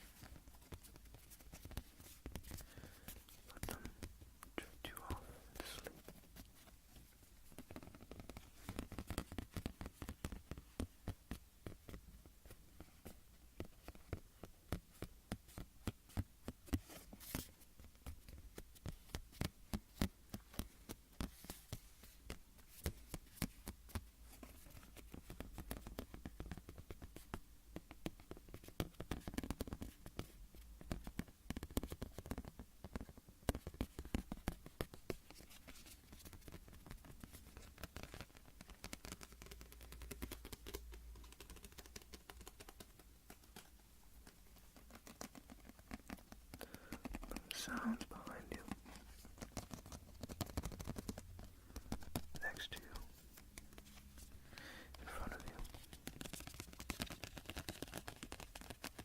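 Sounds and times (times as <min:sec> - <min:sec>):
tapping and scratching on hard object: 0:04.9 - 0:12.6, 0:13.6 - 0:54.3, 0:54.9 - 0:59.0.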